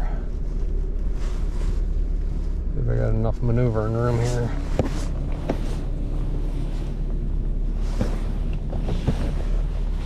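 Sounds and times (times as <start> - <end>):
truck engine low rumble: 0.0 - 10.0.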